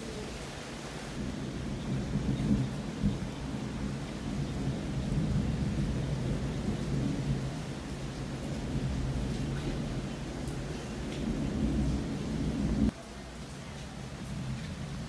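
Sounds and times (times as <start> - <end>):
thunder rumbling: 0.1 - 13.0.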